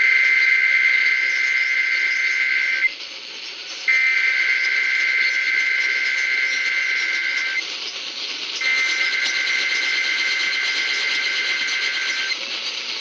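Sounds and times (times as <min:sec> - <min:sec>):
two-tone digital data screech: 0:00.0 - 0:02.9, 0:03.9 - 0:07.6, 0:08.6 - 0:12.4
radio hiss: 0:00.0 - 0:13.0.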